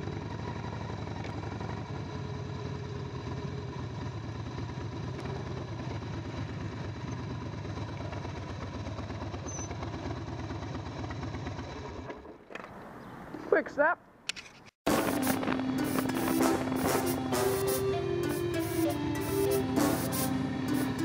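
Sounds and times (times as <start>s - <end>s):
motorcycle engine running: 0.0s - 12.5s, 14.9s - 21.0s.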